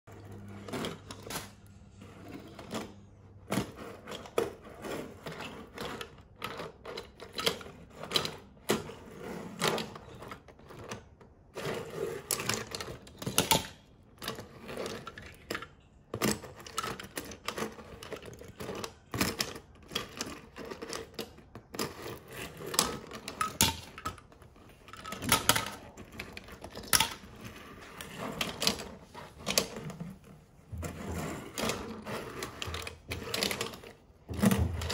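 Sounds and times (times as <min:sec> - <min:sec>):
toy cars rolling on wood: 0:00.1 - 0:34.9
toy cars clacking together: 0:00.3 - 0:29.9.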